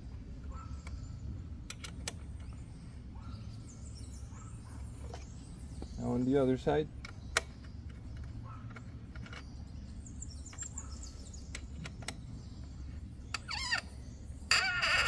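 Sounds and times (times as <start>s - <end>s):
steady low rumble: 0.0s - 14.5s
bird chirping: 0.4s - 15.0s.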